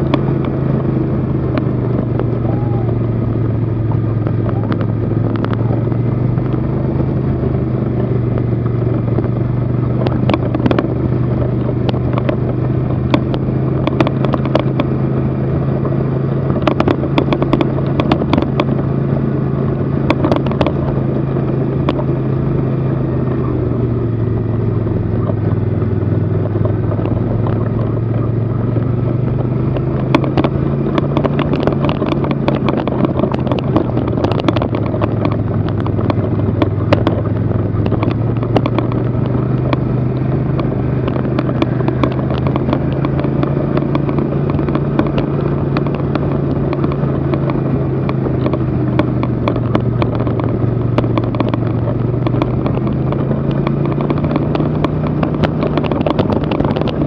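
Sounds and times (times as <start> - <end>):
vehicle engine running: 0.0 - 57.0
clicks and rattles: 3.9 - 15.0, 16.4 - 18.8, 20.0 - 22.2, 25.2 - 57.0.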